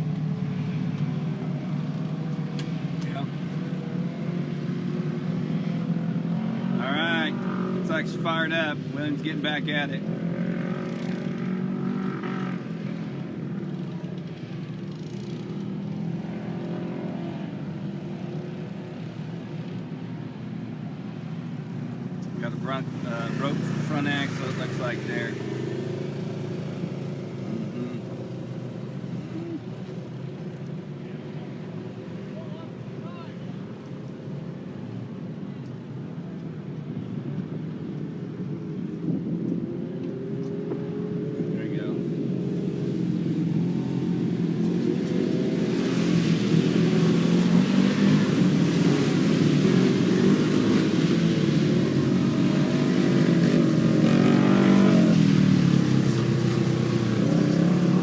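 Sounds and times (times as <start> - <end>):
race car engines running: 0.0 - 58.0.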